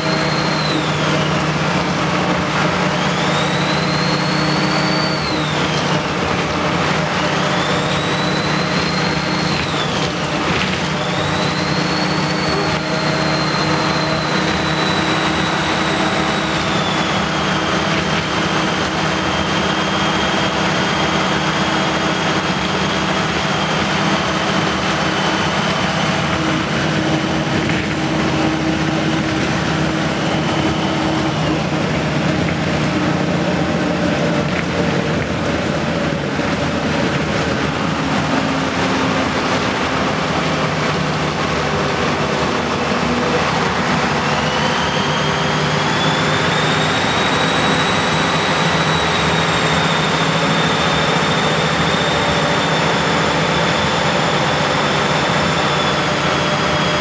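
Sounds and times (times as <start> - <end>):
bus diesel engine running: 0.0 - 57.0
high jet-like whine: 0.0 - 57.0.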